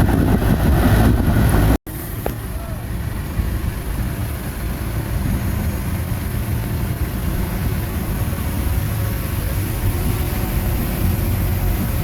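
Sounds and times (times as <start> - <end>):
heavy diesel machine engine running: 0.0 - 12.0.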